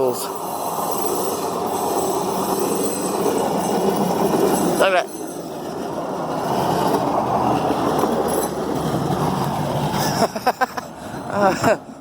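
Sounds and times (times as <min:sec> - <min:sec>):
rail wheels rolling on rails: 0:00.0 - 0:12.0.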